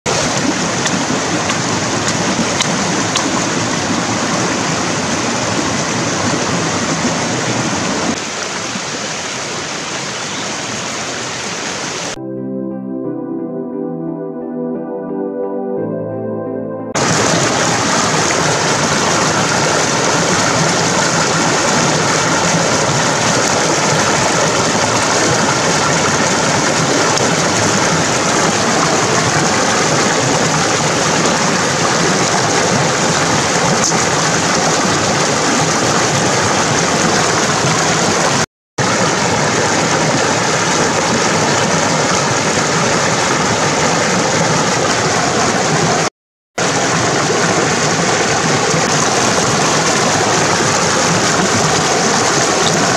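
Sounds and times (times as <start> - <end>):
water rushing over rocks: 0.1 - 12.2, 17.0 - 52.9.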